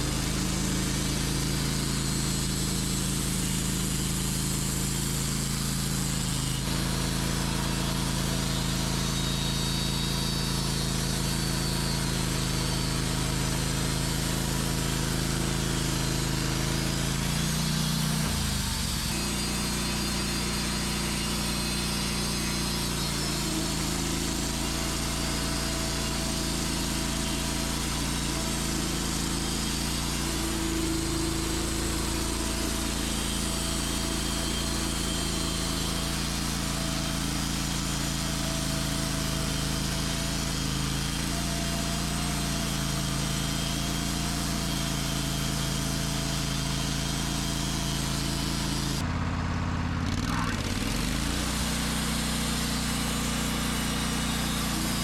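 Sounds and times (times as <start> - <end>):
saw cutting through log: 0.0 - 49.1, 49.9 - 55.0
sawmill engine running: 0.0 - 55.0.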